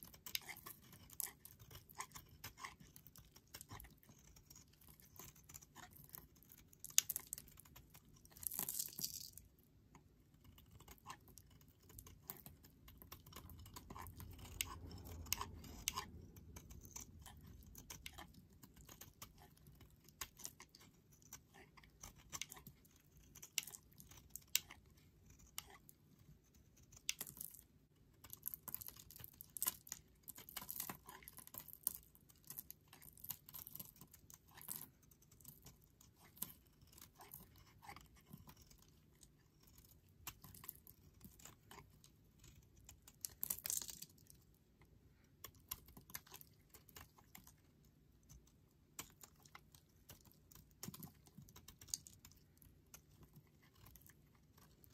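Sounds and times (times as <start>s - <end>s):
sharp crackles and scrapes: 0.0s - 54.9s
utility knife shaving soap: 0.0s - 54.9s.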